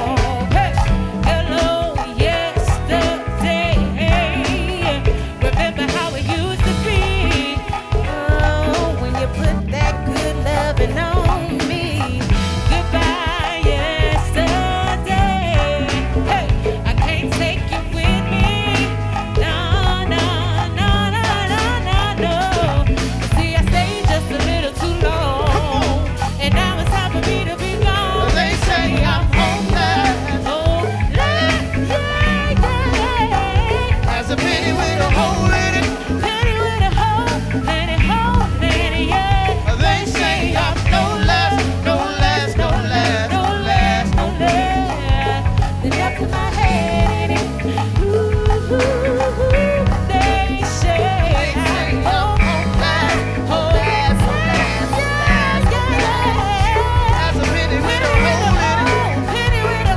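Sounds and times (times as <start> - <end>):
live band playing: 0.0 - 59.9
person singing: 0.0 - 59.9.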